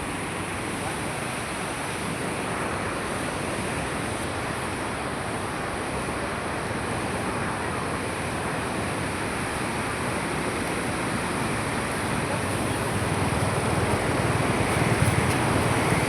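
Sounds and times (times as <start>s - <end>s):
floodwater rushing through spillway: 0.0s - 16.0s.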